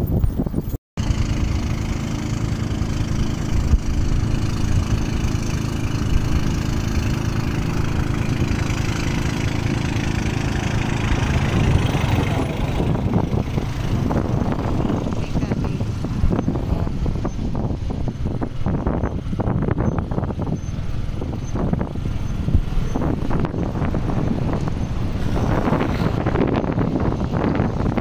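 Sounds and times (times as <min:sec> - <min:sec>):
rush of wind and water: 0:00.0 - 0:28.0
boat engine humming: 0:01.0 - 0:28.0.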